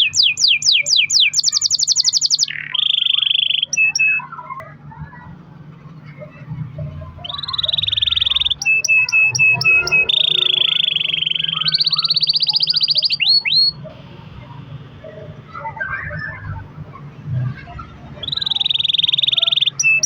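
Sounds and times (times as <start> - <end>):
canary singing trills: 0.0 - 4.7, 6.2 - 20.0.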